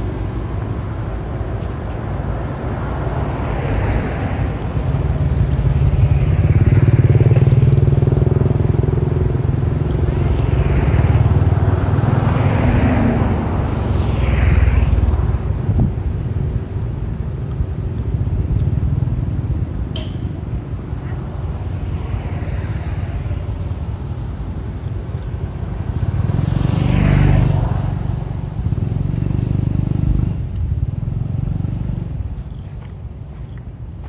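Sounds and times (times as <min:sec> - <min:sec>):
passing vehicles engine drone: 0:00.0 - 0:34.0.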